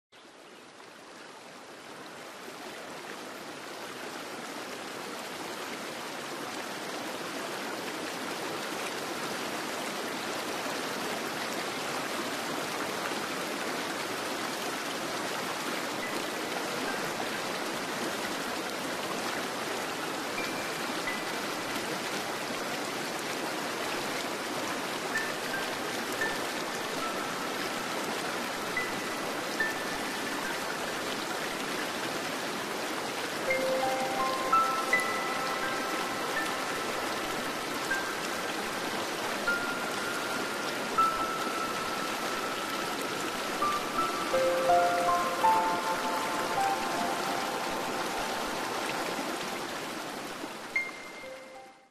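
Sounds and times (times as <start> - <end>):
rushing stream-like water: 0.2 - 51.9.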